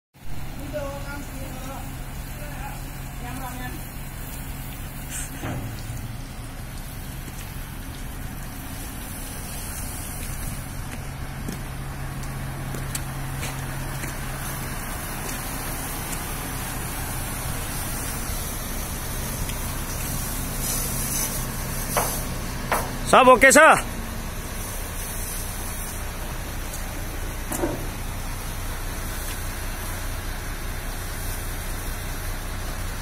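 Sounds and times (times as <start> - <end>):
diesel truck engine idling: 0.2 - 33.0
steady hiss: 0.4 - 33.0.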